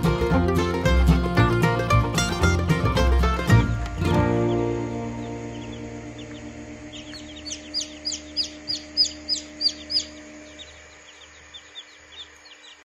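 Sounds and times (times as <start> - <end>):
chicks peeping: 1.9 - 12.9.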